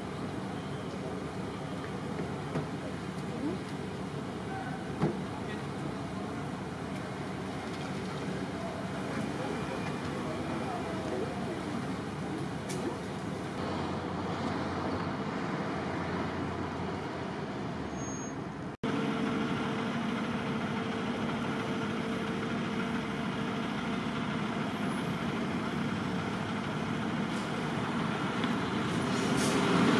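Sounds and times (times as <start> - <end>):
street traffic passing: 0.0 - 29.9.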